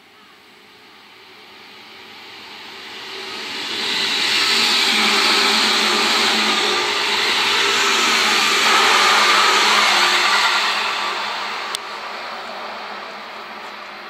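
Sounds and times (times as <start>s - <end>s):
wheel-on-rail noise: 0.6s - 14.0s.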